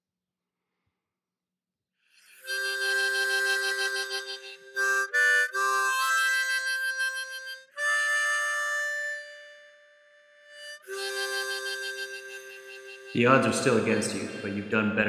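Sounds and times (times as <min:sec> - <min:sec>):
harmonica playing chords: 0:02.2 - 0:15.0.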